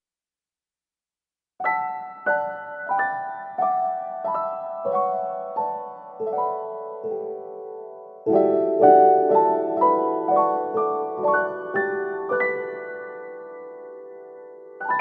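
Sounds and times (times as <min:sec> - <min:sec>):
slow piano melody: 0:01.6 - 0:15.0.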